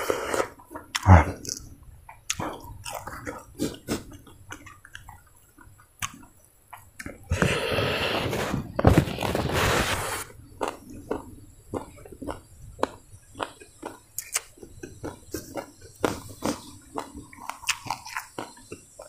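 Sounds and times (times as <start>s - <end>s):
person chewing wetly: 0.0s - 7.5s, 10.5s - 19.0s.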